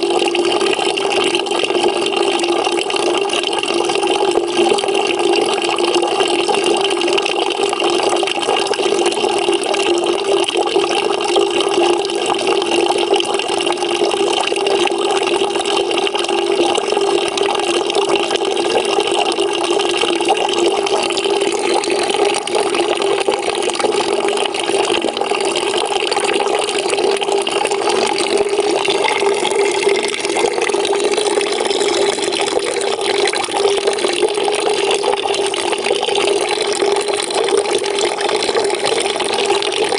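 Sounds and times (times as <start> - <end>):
water pouring into a bucket: 0.0 - 39.9.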